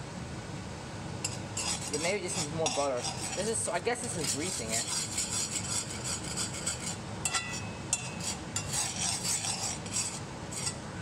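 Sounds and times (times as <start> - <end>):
knife scraping butter in skillet: 1.2 - 10.8.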